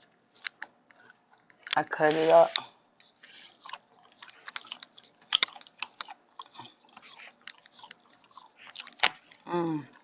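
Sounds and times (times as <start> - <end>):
person chewing crunchy salad: 0.0 - 10.0.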